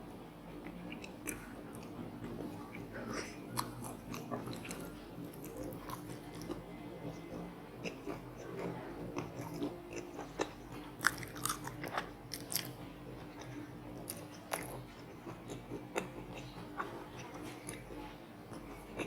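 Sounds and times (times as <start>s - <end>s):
crunchy chewing: 0.6s - 19.0s.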